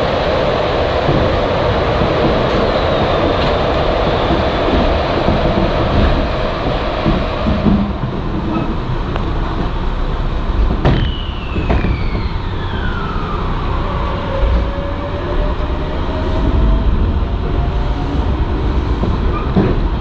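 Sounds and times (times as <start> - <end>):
high whine gliding down: 0.0 - 19.8
train rumble on rails: 0.0 - 20.0.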